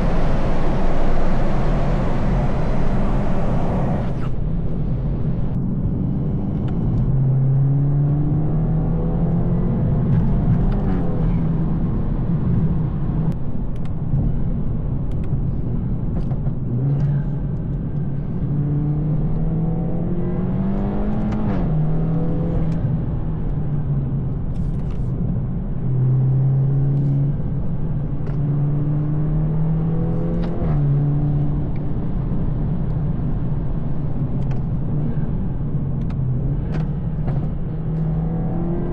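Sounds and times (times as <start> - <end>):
car engine shifting through gears: 0.0 - 13.3, 16.0 - 38.9
road rumble: 0.0 - 38.9.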